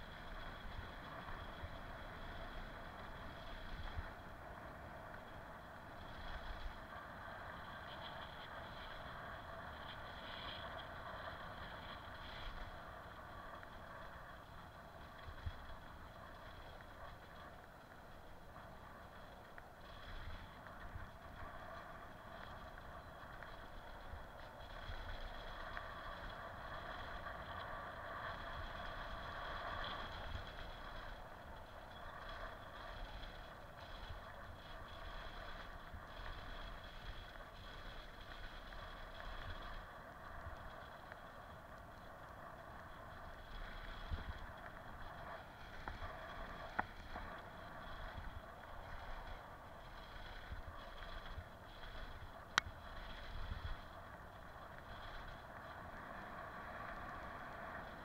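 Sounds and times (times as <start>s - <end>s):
bicycle tyres rumbling on concrete: 0.0s - 58.0s.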